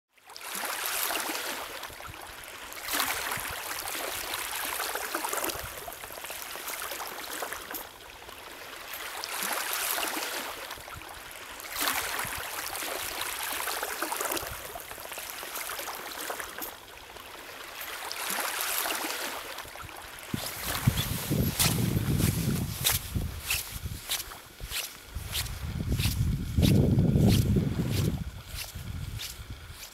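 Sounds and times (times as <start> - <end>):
small waves lapping on shore: 0.1 - 29.9.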